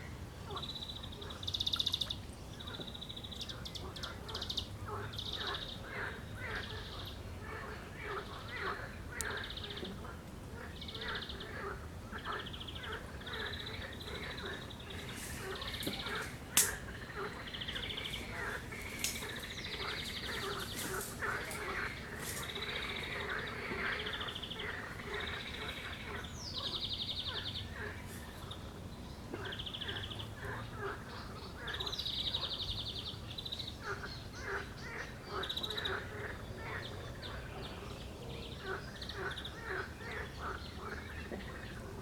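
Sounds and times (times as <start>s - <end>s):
birds singing: 0.0s - 41.9s
frogs croaking: 0.0s - 42.0s.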